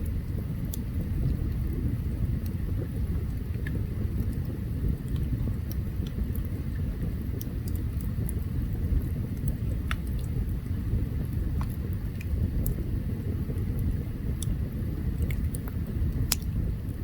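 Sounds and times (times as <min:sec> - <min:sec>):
campfire rumble: 0:00.0 - 0:17.0
wood crackling and popping: 0:00.0 - 0:17.0.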